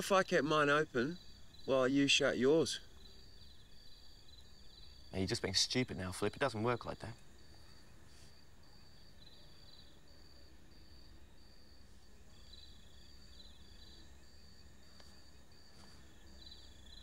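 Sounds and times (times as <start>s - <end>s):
crickets chirping: 0.0s - 17.0s
lower insect trill: 0.0s - 17.0s.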